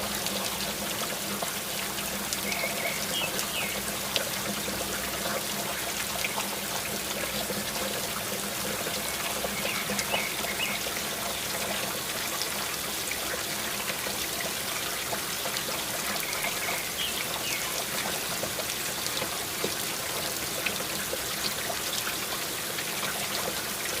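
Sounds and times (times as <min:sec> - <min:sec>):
rain falling: 0:00.0 - 0:24.0
water trickling and pouring: 0:00.0 - 0:24.0.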